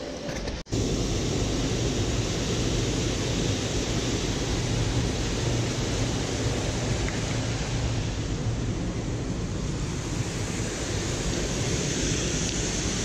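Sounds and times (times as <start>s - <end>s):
small waterfall rushing: 0.7s - 13.0s.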